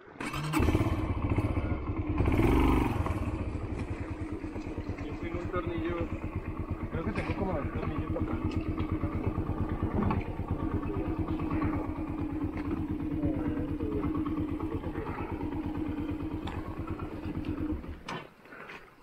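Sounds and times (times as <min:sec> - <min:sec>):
motorcycle engine running at low revs: 0:00.6 - 0:18.0.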